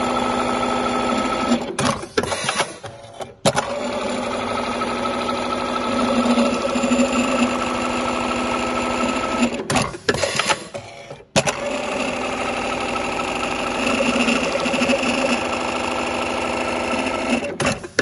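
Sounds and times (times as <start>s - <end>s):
sewing machine stitching: 0.0s - 18.0s
machine clicks and clatters: 0.8s - 18.0s.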